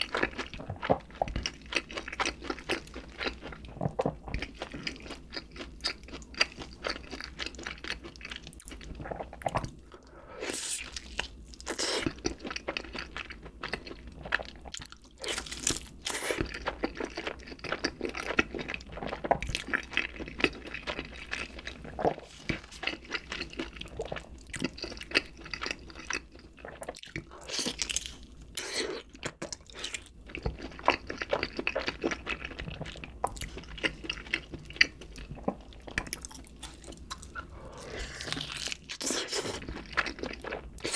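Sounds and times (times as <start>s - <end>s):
chewing crunchy food: 0.0s - 40.9s.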